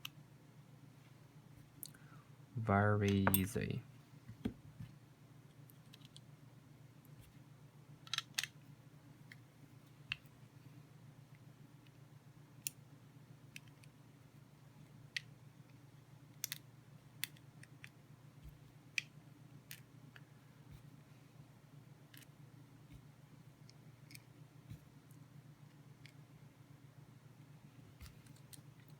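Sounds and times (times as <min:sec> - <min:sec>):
faint low hum: 0:00.0 - 0:28.9.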